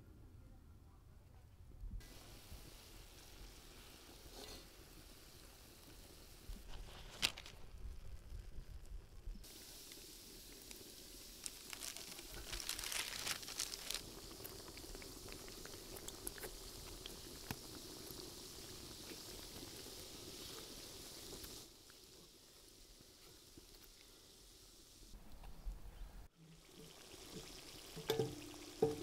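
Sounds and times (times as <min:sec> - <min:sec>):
donuts sizzling in hot oil: 0:02.0 - 0:25.1, 0:26.4 - 0:29.0.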